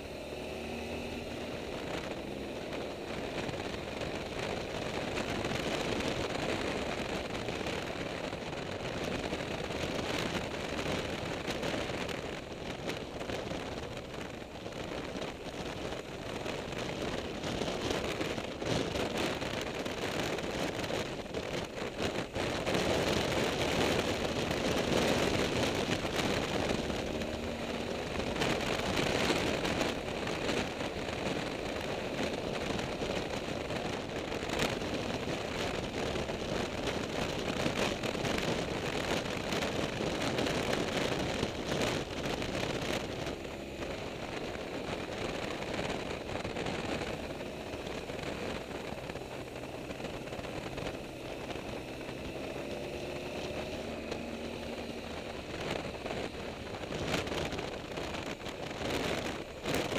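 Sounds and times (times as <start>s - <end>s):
faint motorcycle engine: 0.0s - 59.9s
wind buffeting microphone: 1.3s - 59.9s.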